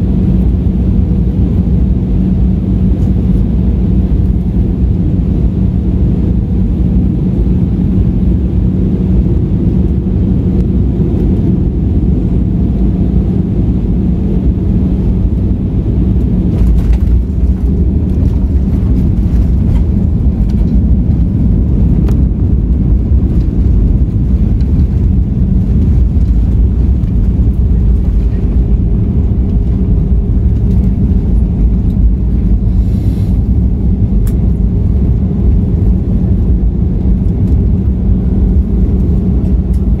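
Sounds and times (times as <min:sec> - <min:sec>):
constant cabin hum: 0:00.0 - 0:40.0
engine and airflow roar: 0:00.0 - 0:40.0
runway rollout rumble: 0:00.0 - 0:40.0.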